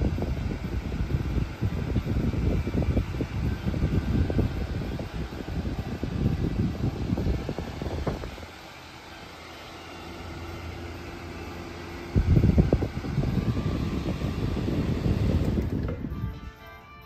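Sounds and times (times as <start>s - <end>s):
airflow buffeting microphone: 0.0s - 16.4s
table fan running: 0.0s - 17.0s.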